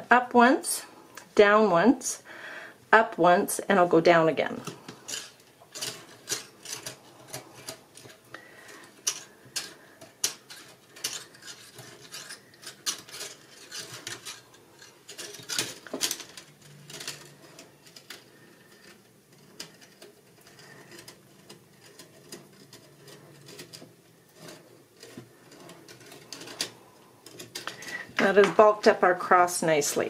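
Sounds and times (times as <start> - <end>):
wire clicking and scraping: 4.4 - 30.0.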